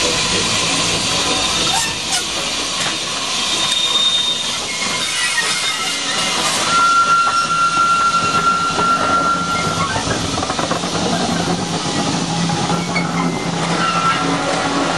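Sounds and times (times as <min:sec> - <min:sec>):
steam hissing: 0:00.0 - 0:14.9
train wheels on rails: 0:00.0 - 0:14.9
steady high squeal: 0:00.8 - 0:10.4, 0:11.1 - 0:14.9.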